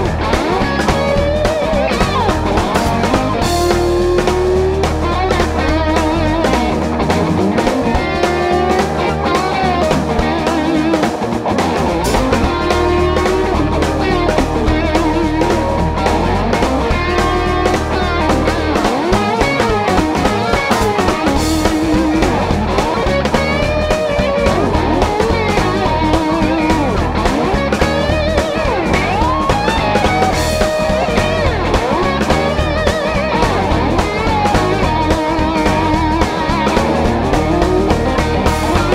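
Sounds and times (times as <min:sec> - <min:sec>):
electric guitar bending lines: 0:00.0 - 0:38.9
rock band playing: 0:00.0 - 0:38.9.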